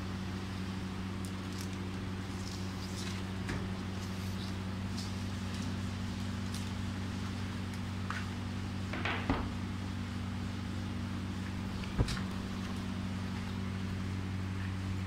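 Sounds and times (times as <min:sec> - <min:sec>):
electrical hum of press: 0:00.0 - 0:15.0.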